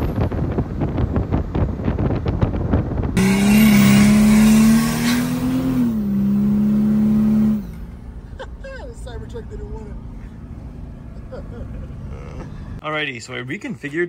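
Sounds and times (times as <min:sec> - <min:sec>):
diesel engine rumbling and revving: 0:00.0 - 0:12.8.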